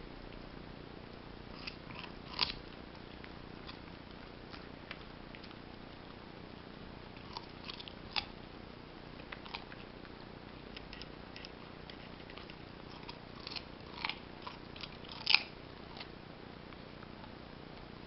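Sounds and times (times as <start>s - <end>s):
puppy crunching carrot: 1.5s - 6.2s, 7.0s - 8.5s, 9.1s - 17.9s.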